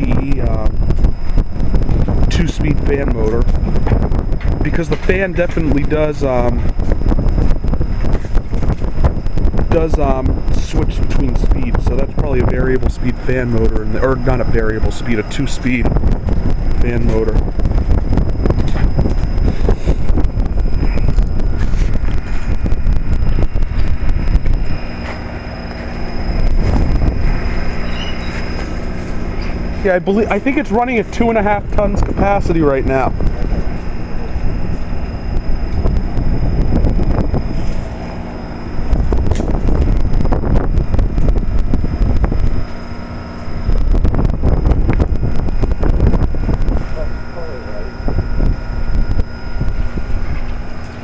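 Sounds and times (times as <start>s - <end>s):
heat pump humming: 0.0s - 51.0s
wind rumble on microphone: 0.0s - 51.0s.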